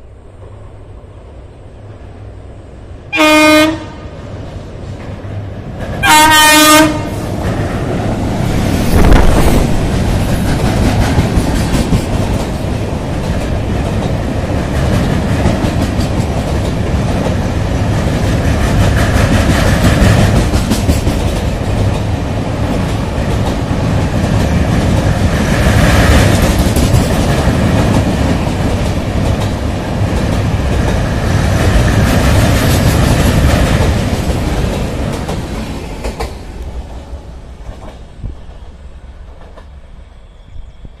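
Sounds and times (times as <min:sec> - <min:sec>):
train rumbling over bridge: 0:00.0 - 0:41.0.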